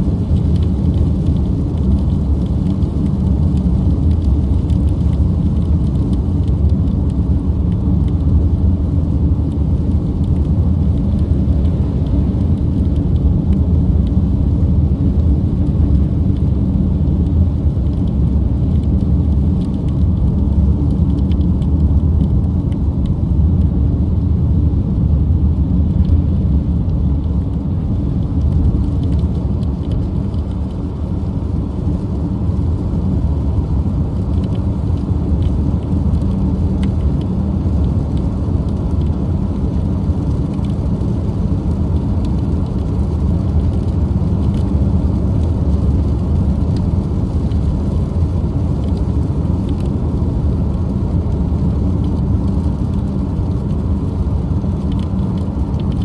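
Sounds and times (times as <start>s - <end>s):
car engine hum: 0.0s - 56.0s
rain ticking on window: 0.0s - 56.0s.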